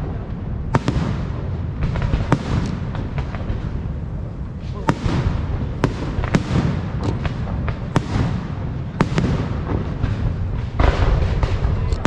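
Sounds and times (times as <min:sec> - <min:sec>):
firework bangs: 0:00.0 - 0:12.0
fireworks rumble and crackle: 0:00.0 - 0:12.0.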